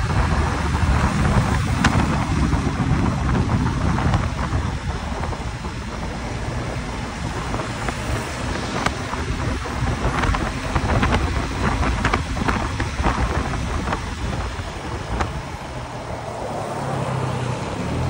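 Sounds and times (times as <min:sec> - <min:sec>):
passing car traffic: 0:00.0 - 0:18.0
tyre and road noise: 0:00.0 - 0:18.0
wind rumbling on microphone: 0:00.0 - 0:18.0.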